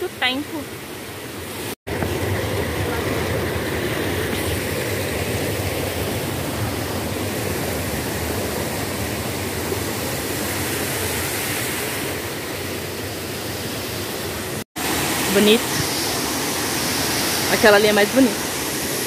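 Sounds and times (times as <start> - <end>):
water rushing down waterfall: 0.0 - 19.0.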